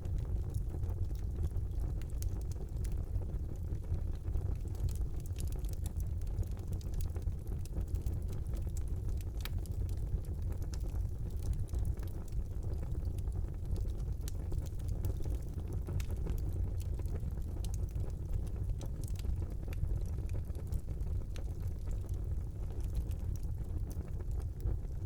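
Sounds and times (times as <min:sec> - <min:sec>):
fire crackles and pops: 0:00.0 - 0:25.0
fire rumbling in fireplace: 0:00.0 - 0:25.0.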